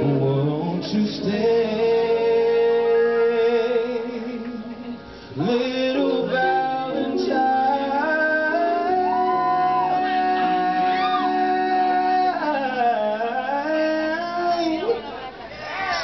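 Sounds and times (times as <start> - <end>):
band playing: 0.0 - 14.8
man singing with vibrato: 0.0 - 15.3.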